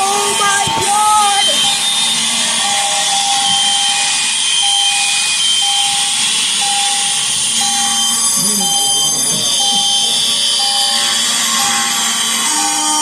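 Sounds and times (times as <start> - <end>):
fire alarms buzzing: 0.0 - 13.0
pulsing alarm tone: 0.0 - 13.0.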